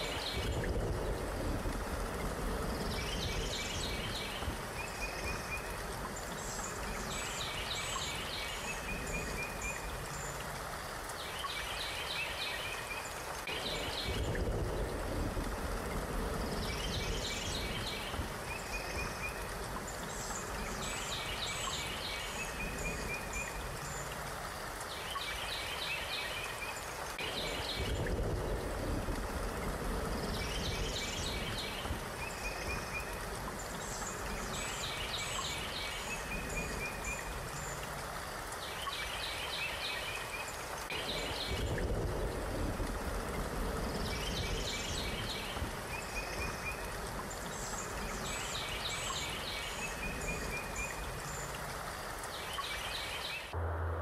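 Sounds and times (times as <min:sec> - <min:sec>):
rushing nature ambience: 0:00.0 - 0:54.0.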